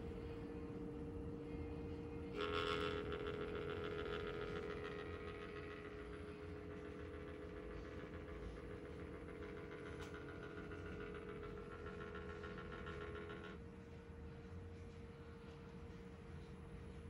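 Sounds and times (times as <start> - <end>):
fan hum: 0.0 - 17.0
fan mechanical whine: 0.0 - 17.0.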